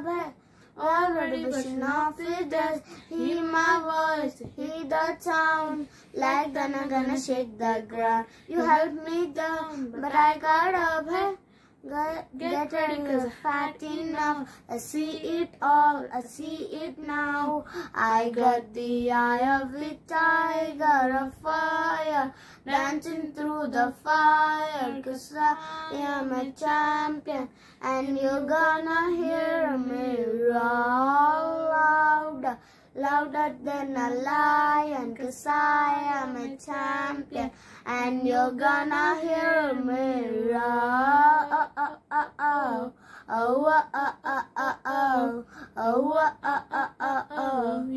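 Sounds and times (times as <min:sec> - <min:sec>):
girl singing unaccompanied: 0:00.0 - 0:47.9.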